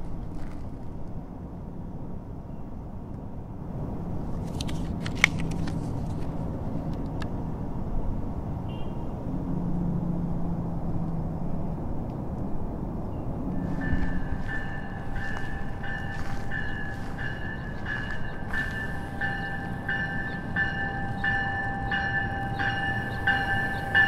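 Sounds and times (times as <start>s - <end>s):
distant vehicles rumbling: 0.0s - 24.0s.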